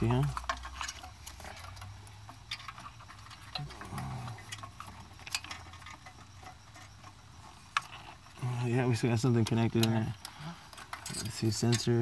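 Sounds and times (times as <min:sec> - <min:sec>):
metal parts clicking and tapping: 0:00.0 - 0:12.0.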